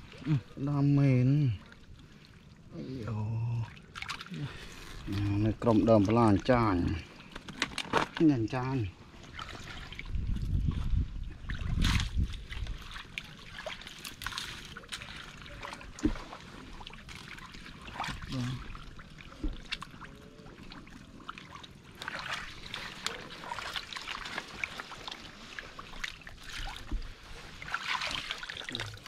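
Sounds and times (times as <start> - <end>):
muddy water sloshing and splashing: 0.0 - 29.0.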